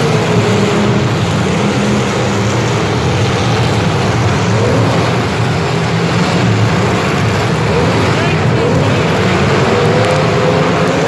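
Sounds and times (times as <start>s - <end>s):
engine running: 0.0s - 11.0s
loud rushing noise: 0.0s - 11.0s.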